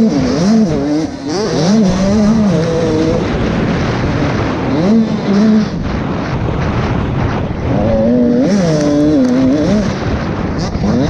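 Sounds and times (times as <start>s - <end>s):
motocross bike engine revving: 0.0s - 11.0s
wind rushing on microphone: 0.0s - 11.0s.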